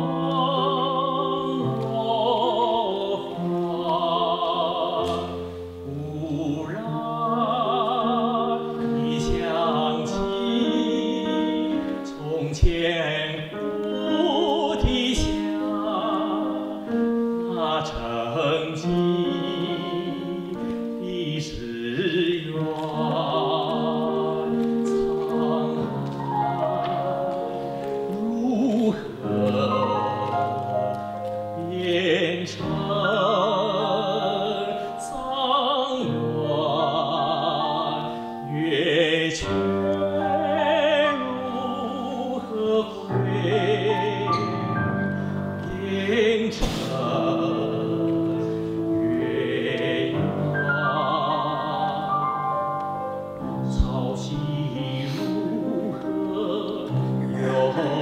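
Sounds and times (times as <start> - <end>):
cello: 0.0 - 58.0
man singing operatically: 0.0 - 58.0
piano: 0.0 - 58.0.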